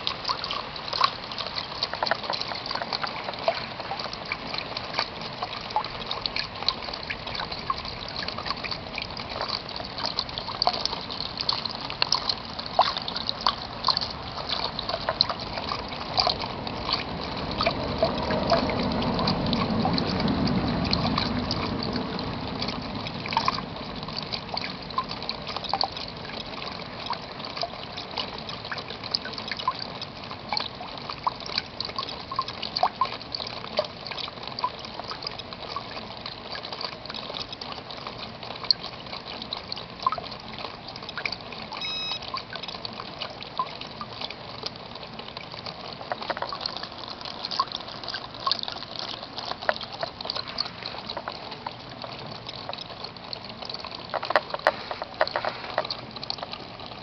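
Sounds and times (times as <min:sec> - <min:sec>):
drops splashing and dripping: 0:00.0 - 0:57.0
rain falling: 0:00.0 - 0:57.0
rush of water: 0:00.0 - 0:57.0.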